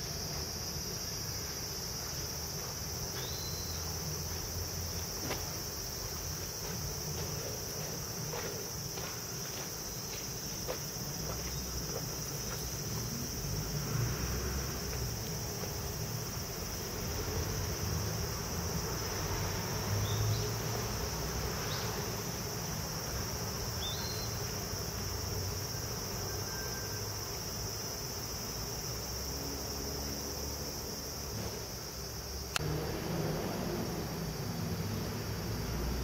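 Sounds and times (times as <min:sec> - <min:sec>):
insects chorus: 0:00.0 - 0:36.0.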